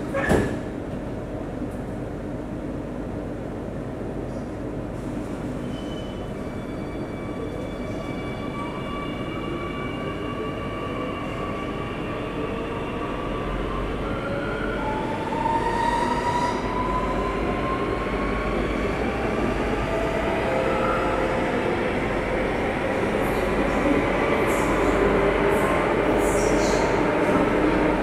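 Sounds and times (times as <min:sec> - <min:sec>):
train rumble and rail noise: 0:00.0 - 0:28.0.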